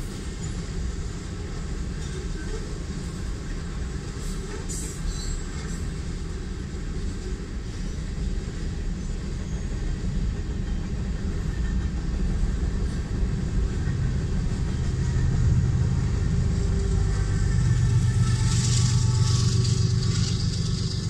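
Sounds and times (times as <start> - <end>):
diesel locomotive hum and hiss: 0.0 - 21.0
freight cars rumbling on rails: 0.0 - 21.0.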